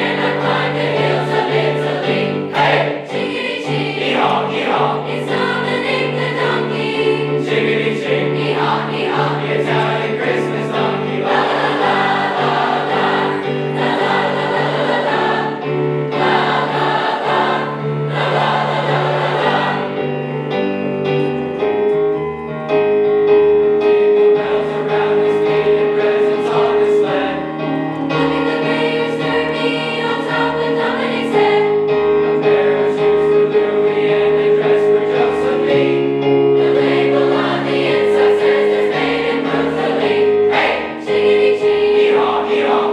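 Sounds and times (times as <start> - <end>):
choir singing: 0.0 - 20.8, 24.0 - 42.9
instrumental accompaniment: 0.0 - 42.9.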